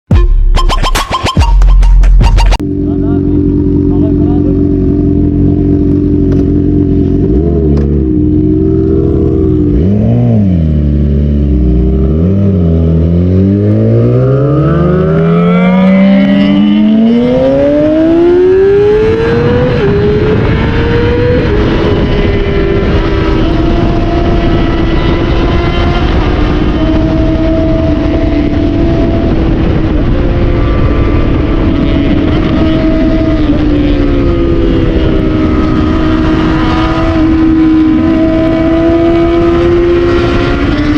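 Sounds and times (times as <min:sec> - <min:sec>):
motorcycle engine idling and revving: 0:01.4 - 0:40.9.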